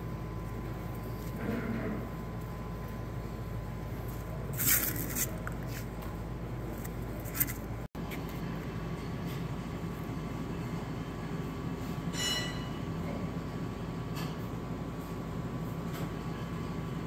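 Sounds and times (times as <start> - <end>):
low shop hum: 0.0 - 17.0.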